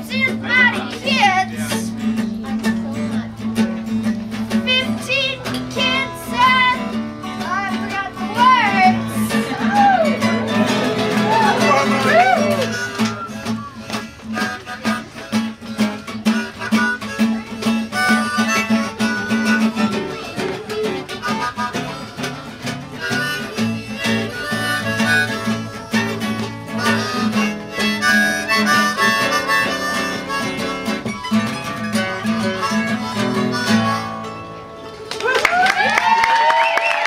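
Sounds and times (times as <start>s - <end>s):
harmonica melody: 0.0s - 35.0s
jug band playing: 0.0s - 35.0s.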